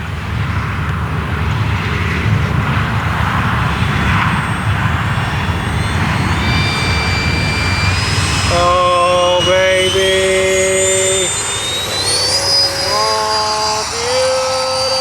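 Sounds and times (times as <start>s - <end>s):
model airplane rushing noise: 0.0s - 15.0s
rising whine: 0.0s - 15.0s.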